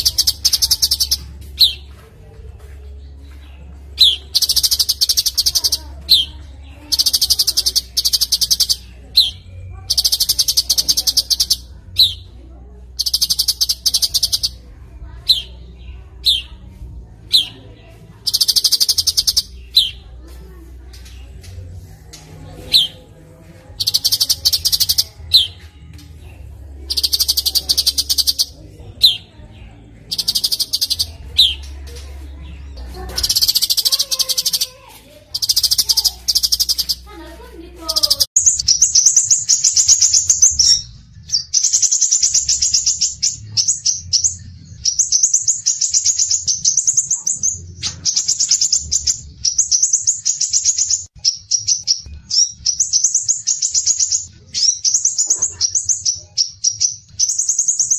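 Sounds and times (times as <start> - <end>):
songbird trilling: 0.0 - 2.0, 4.0 - 16.6, 18.2 - 20.1, 23.8 - 25.6, 26.8 - 31.8, 32.5 - 37.1, 37.9 - 57.9.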